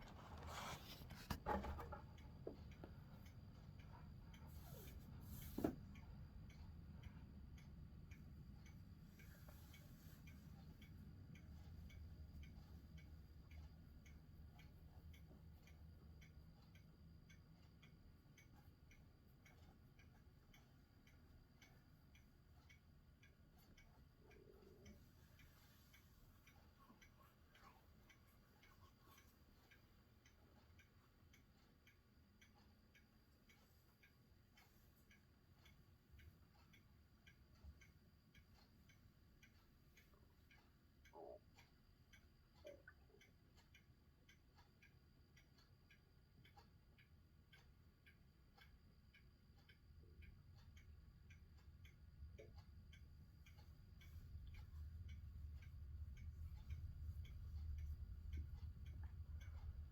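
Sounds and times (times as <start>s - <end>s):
faint even ticking: 0.0s - 59.9s.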